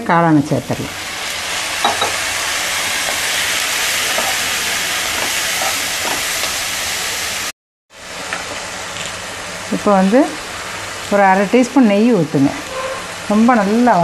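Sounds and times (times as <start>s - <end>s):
onions and mushrooms sizzling in oil: 0.0s - 14.0s.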